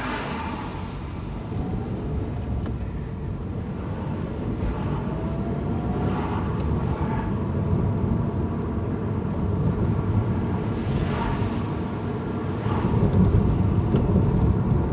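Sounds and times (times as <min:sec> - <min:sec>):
car engine and road noise: 0:00.0 - 0:14.9.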